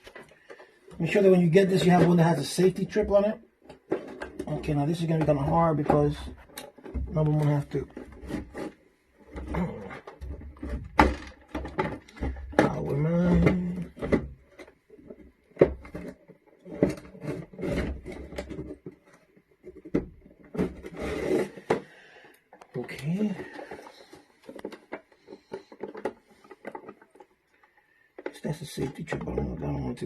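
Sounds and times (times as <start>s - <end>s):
plastic parts knocking and clicking: 0.0s - 30.0s.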